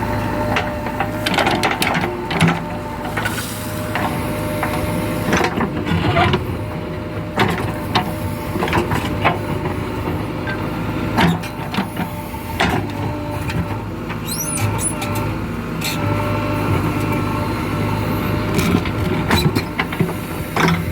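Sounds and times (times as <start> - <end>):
backhoe diesel engine running: 0.0 - 20.9.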